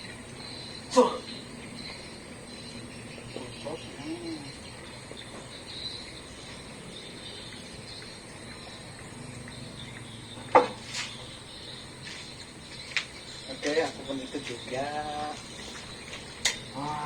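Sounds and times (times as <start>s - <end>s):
high-pitched insect chirring: 0.0s - 17.0s.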